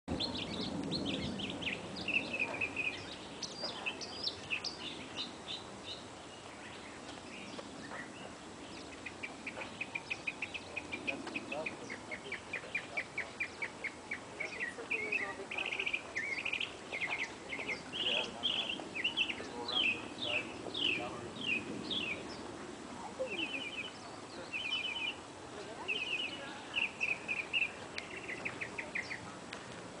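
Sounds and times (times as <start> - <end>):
small birds chirping: 0.1 - 29.8.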